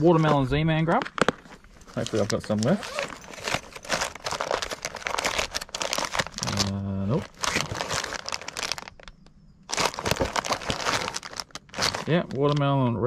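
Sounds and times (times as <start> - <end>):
plastic packets crinkling: 0.0 - 12.7.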